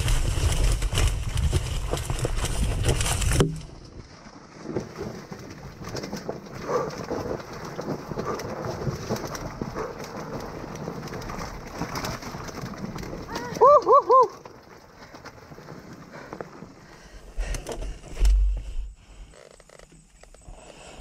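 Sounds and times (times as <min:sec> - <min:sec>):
stones crunching under tyres: 0:00.0 - 0:20.7
bike rattling: 0:00.0 - 0:21.0
dirt bike engine: 0:00.0 - 0:21.0.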